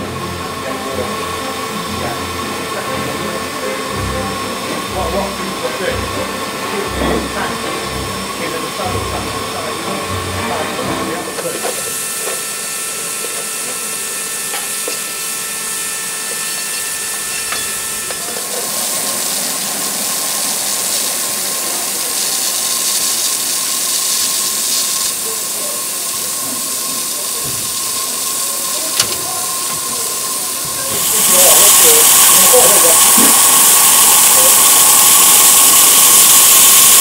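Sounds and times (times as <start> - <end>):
steam hissing from locomotive: 0.0 - 37.0.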